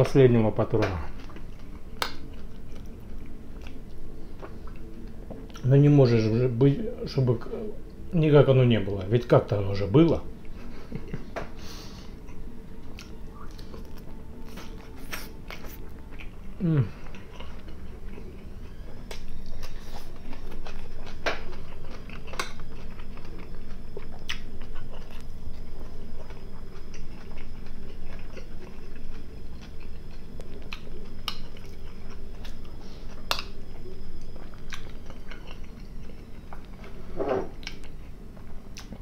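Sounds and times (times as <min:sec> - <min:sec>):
chewing food: 0:00.9 - 0:05.7, 0:12.2 - 0:39.0.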